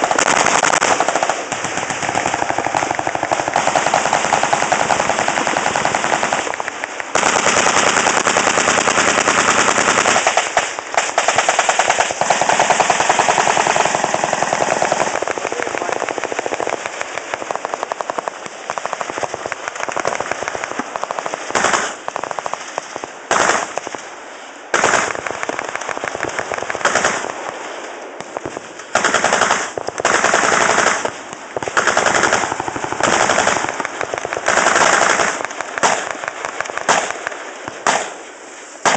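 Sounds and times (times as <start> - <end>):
machine guns firing: 0.0 - 24.0, 24.7 - 27.6, 28.2 - 38.2.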